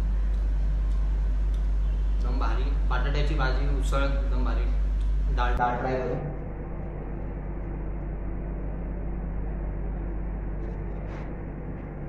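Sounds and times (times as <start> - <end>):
low room hum: 0.0 - 12.0
machine drone: 0.0 - 12.0.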